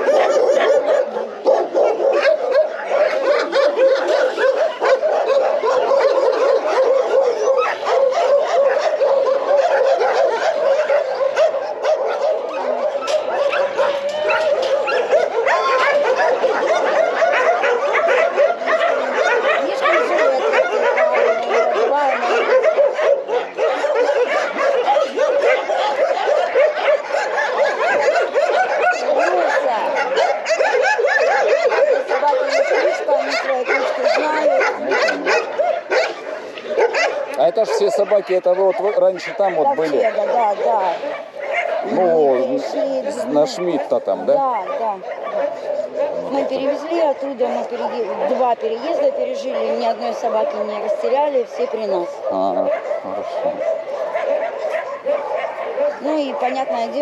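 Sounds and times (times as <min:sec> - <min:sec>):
many dogs barking: 0:00.0 - 0:57.0.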